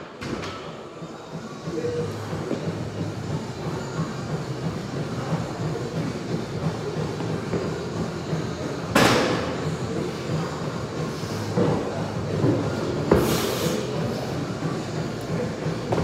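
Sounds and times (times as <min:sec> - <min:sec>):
gym background rumble: 0:00.0 - 0:16.0.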